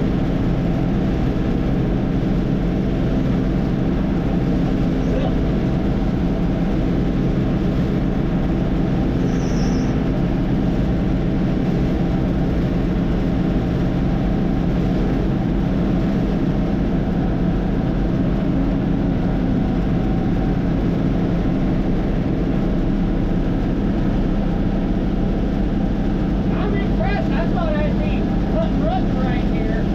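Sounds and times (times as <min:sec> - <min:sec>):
combine harvester engine drone: 0:00.0 - 0:29.9.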